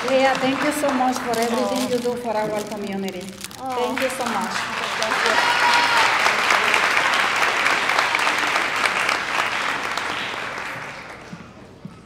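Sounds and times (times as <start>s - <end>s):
audience clapping: 0.0s - 12.0s.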